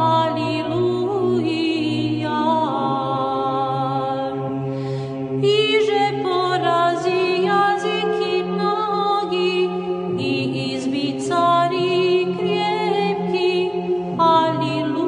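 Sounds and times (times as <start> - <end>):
choir chanting melody: 0.0 - 4.6, 5.2 - 15.0
low held vocal drone: 0.0 - 15.0.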